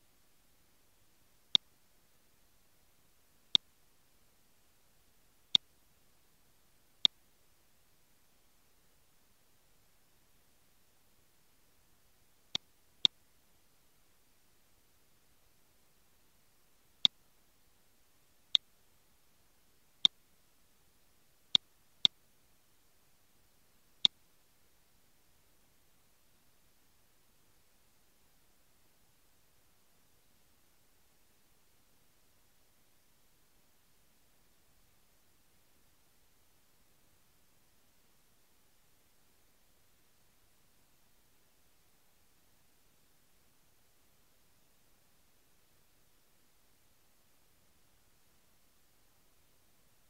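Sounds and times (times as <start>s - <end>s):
faint background hiss: 0.0s - 50.0s.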